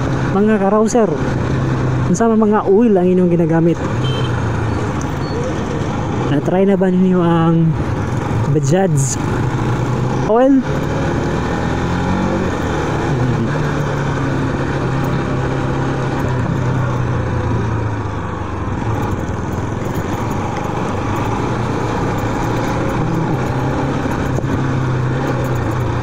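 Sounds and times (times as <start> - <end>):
motorcycle engine running: 0.0 - 26.0
wind and road rush: 0.0 - 26.0.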